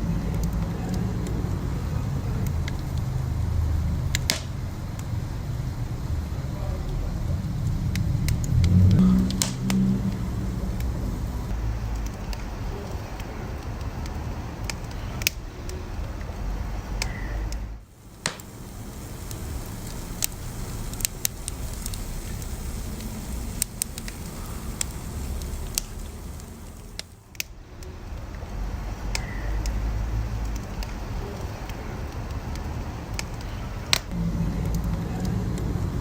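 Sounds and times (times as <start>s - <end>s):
burning logs crackling and popping: 0.0s - 36.0s
low rumble of flames: 0.0s - 36.0s.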